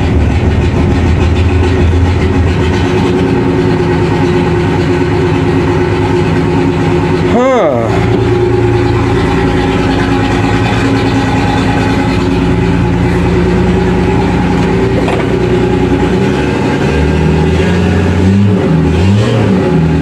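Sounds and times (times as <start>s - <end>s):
boat diesel engine running: 0.0s - 20.0s.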